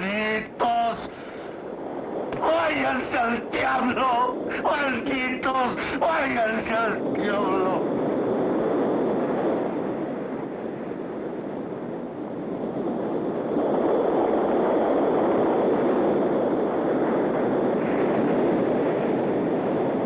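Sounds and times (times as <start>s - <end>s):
ocean surf washing on beach: 0.0s - 20.0s.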